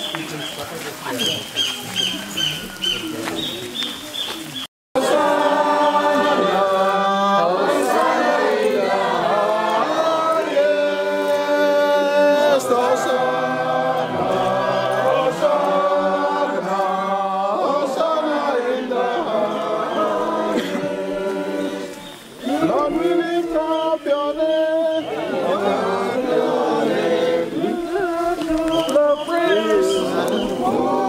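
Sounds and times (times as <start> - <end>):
crowd singing a hymn: 5.0 - 31.0.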